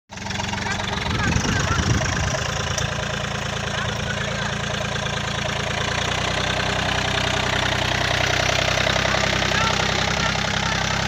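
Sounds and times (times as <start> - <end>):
tractor diesel engine running: 0.1 - 11.0.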